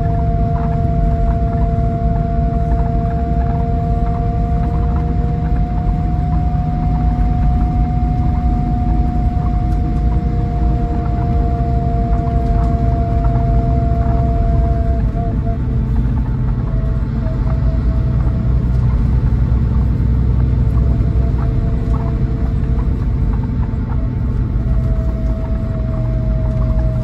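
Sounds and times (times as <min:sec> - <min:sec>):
coach engine rumble: 0:00.0 - 0:27.0
thin whining tones: 0:00.0 - 0:27.0.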